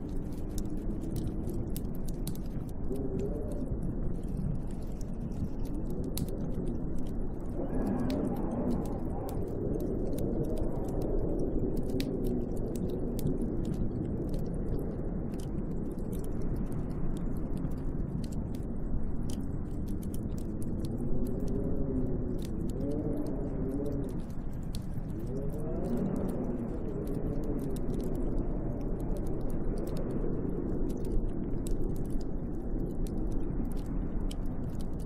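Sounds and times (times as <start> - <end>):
faint ticks: 0.0 - 35.0
howling snowstorm wind: 0.0 - 35.0.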